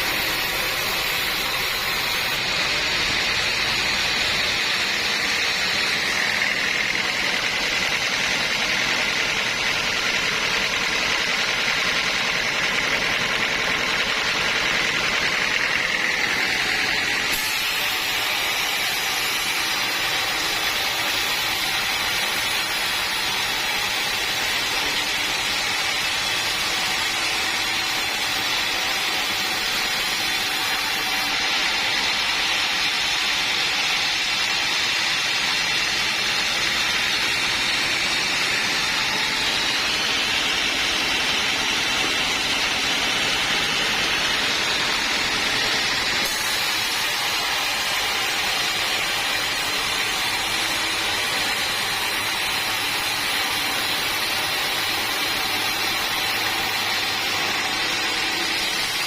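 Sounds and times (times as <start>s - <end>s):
sawmill saw cutting wood: 0.0s - 59.0s.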